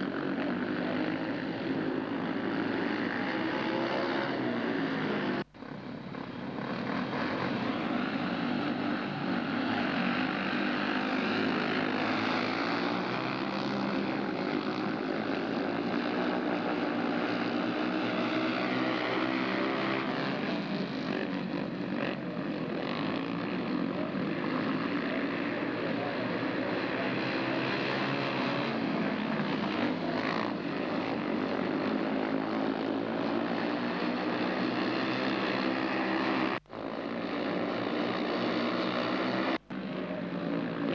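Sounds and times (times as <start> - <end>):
motorcycle engines racing: 0.0 - 40.9.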